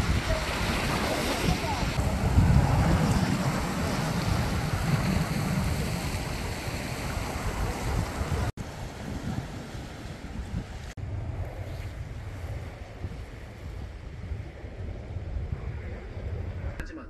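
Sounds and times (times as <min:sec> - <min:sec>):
sea waves on shore: 0:00.0 - 0:17.0
wind buffeting microphone: 0:00.0 - 0:17.0.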